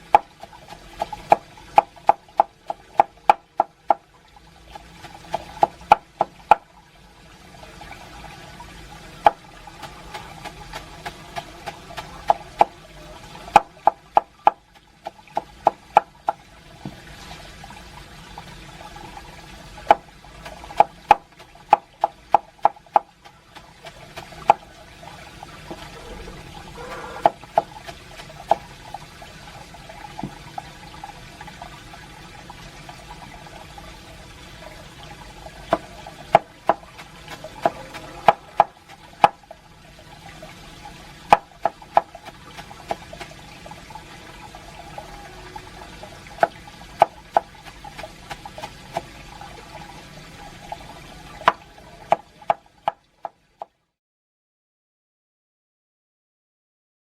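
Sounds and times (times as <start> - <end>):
water splashes: 0.0 - 53.7
water trickling: 0.0 - 53.8.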